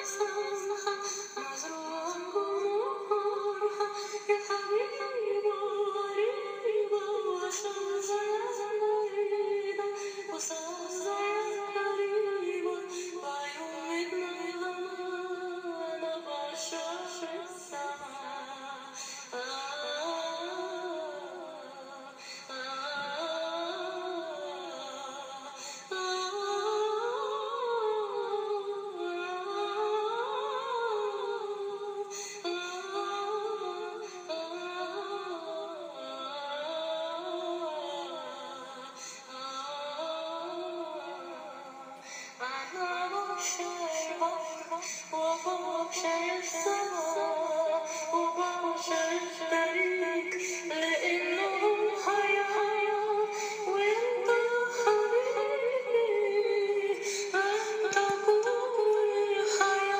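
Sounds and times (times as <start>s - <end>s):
woman singing slow song: 0.0s - 59.9s.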